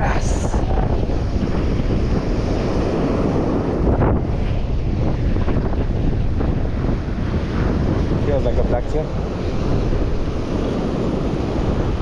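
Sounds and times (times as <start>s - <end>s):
rough surf: 0.0s - 12.0s
wind buffeting microphone: 0.0s - 12.0s.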